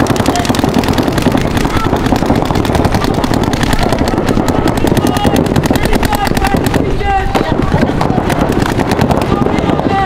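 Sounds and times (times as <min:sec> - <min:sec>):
paintball markers firing rapidly: 0:00.0 - 0:10.0.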